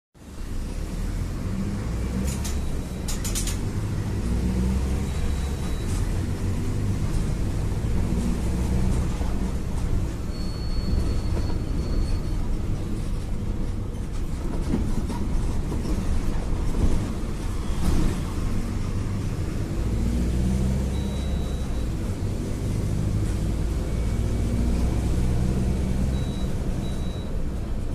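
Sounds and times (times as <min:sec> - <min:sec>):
bus diesel engine rumbling: 0:00.2 - 0:27.9.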